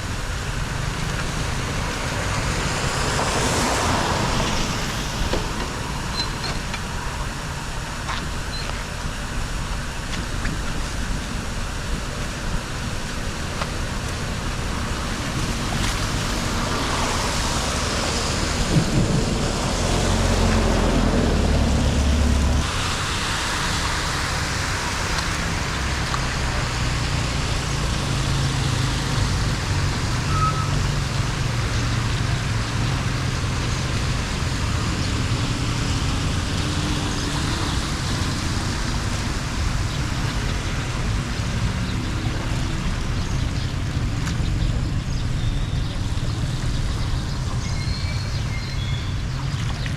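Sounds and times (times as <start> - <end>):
deep water rumble: 0.0 - 49.9
flood water rushing down drain: 0.0 - 49.9.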